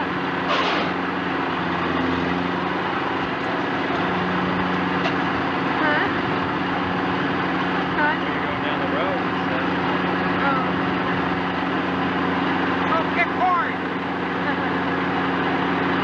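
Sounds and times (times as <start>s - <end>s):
combine engine running steadily: 0.0s - 16.0s.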